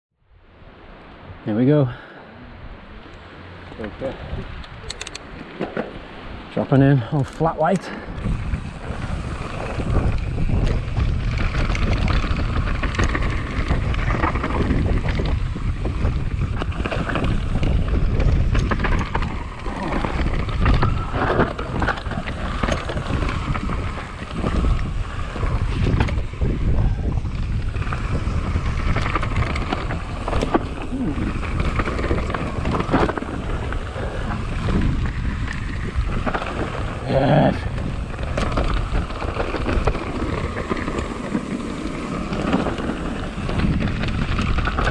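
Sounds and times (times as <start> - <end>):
wind buffeting microphone: 2.4 - 44.9
bike frame rattling: 7.8 - 44.9
tyres rolling over dirt and rocks: 8.2 - 44.9.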